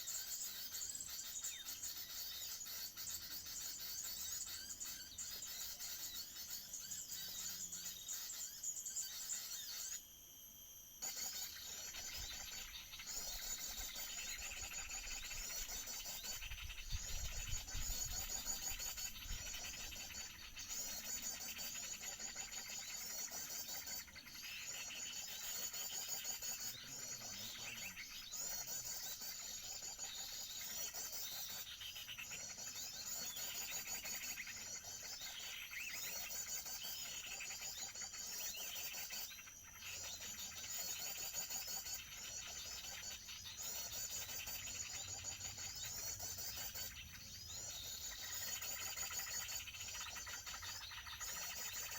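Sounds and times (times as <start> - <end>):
small birds chirping and trilling: 0.0 - 51.9.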